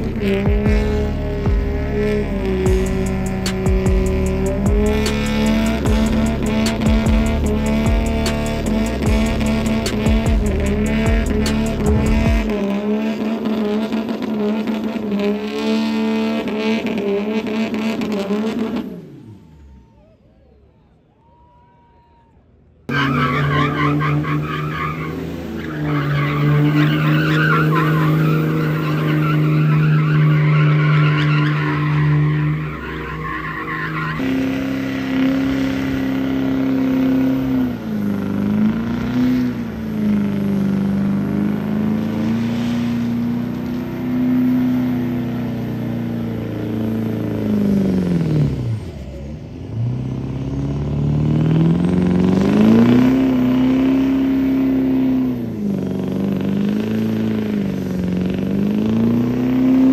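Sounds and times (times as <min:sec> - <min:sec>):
tires scrubbing on pavement: 0:00.0 - 0:19.6, 0:22.9 - 0:59.9
diesel truck engine revving: 0:00.0 - 0:20.1, 0:22.9 - 0:59.9.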